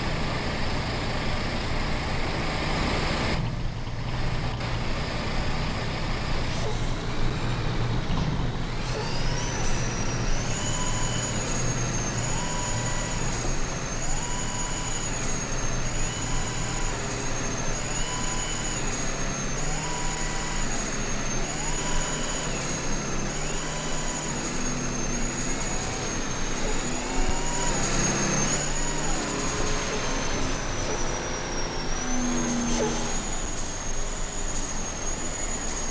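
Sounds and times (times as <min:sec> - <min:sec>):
truck engine drone and road noise: 0:00.0 - 0:35.9.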